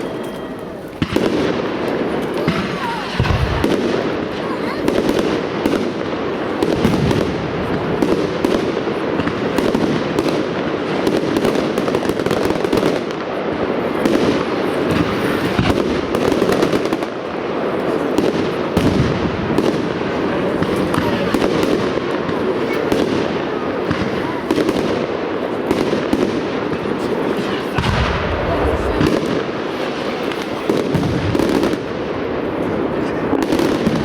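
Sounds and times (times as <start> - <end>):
firework bursts: 0.0 - 34.0.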